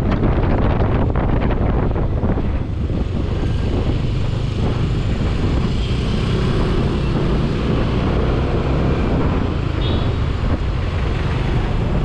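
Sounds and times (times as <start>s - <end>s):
wind buffeting microphone: 0.0s - 12.0s
motorcycle engine running: 0.3s - 12.0s.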